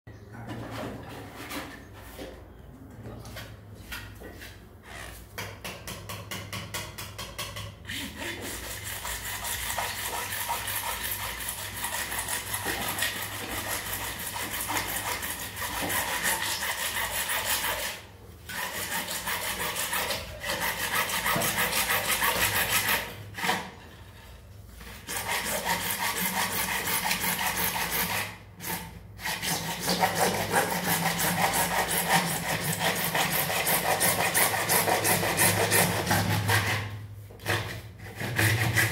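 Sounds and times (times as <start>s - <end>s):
hacksaw sawing plastic pipe: 5.4s - 24.1s, 24.9s - 38.9s.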